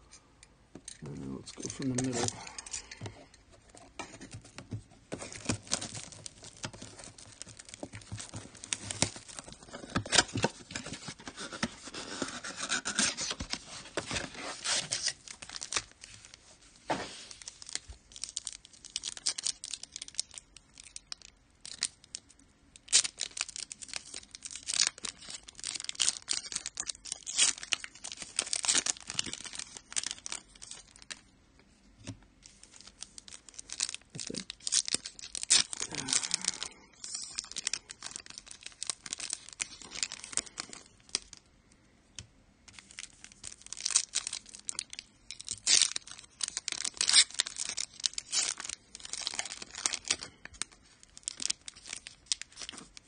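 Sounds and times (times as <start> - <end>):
wrappers tearing and crinkling: 0.9 - 3.0, 4.2 - 31.2, 32.4 - 41.4, 42.7 - 53.0.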